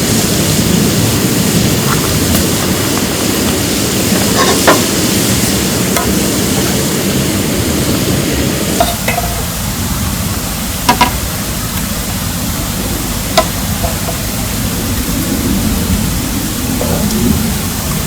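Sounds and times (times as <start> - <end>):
heavy raindrops tapping: 0.0 - 18.0
steady rain falling: 0.0 - 18.0.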